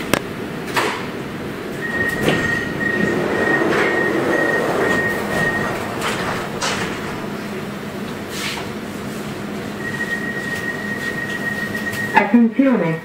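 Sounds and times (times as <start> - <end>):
train wheels rumbling on rail: 0.8 - 12.1.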